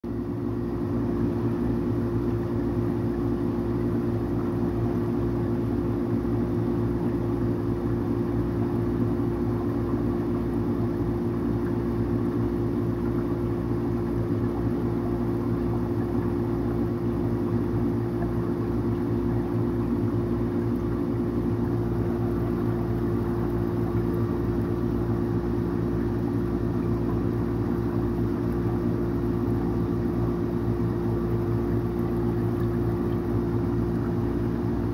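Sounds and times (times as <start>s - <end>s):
aquarium equipment humming: 0.0s - 34.9s.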